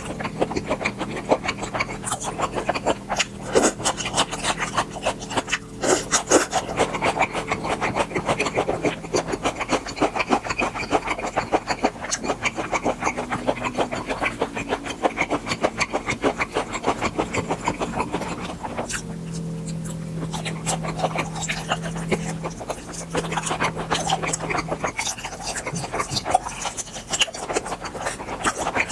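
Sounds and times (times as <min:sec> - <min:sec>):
moist rasping chewing: 0:00.0 - 0:28.9.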